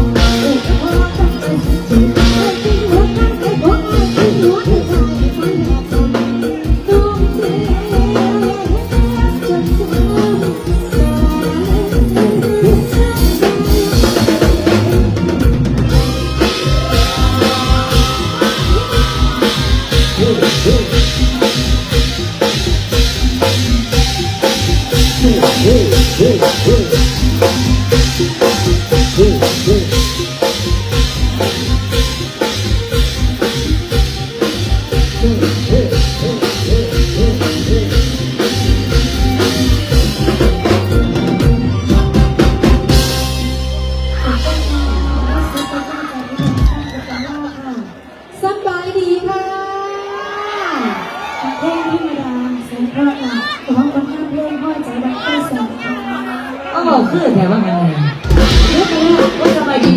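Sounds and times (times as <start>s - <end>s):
drum kit fast beat: 0.0s - 46.9s, 58.1s - 59.9s
live band playing instrumental: 0.0s - 59.9s.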